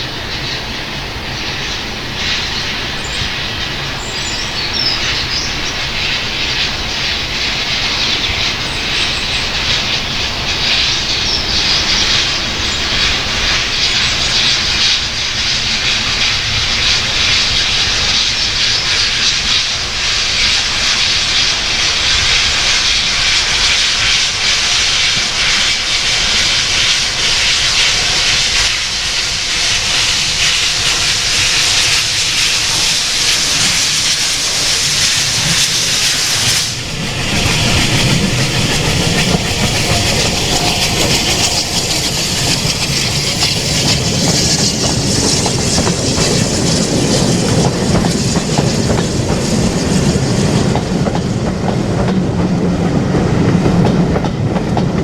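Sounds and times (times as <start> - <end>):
steam train running past: 0.0 - 55.0.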